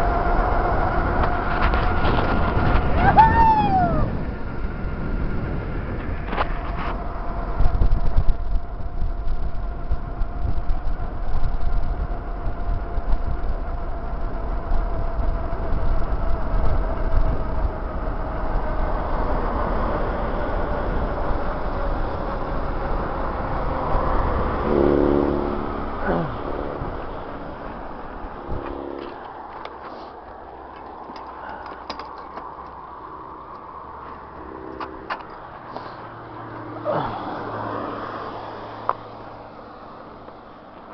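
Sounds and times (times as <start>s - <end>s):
bicycle road noise: 0.0s - 40.9s
car passing: 0.0s - 40.9s
steady hum dropping in pitch: 0.0s - 40.9s
wind rumble on microphone: 0.0s - 40.9s.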